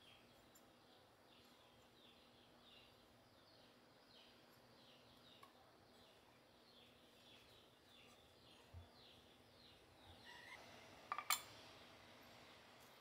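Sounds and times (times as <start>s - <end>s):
faint bird chirps: 0.0s - 10.9s.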